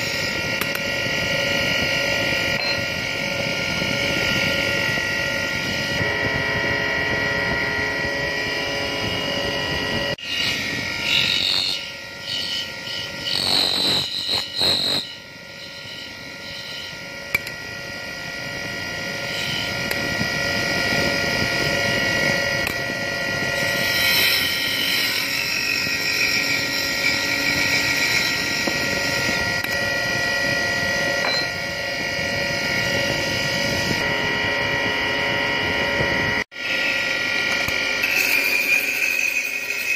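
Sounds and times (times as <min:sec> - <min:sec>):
tool scraping spinning wood: 0:00.0 - 0:35.2, 0:36.6 - 0:39.9
wood lathe humming: 0:00.0 - 0:35.6.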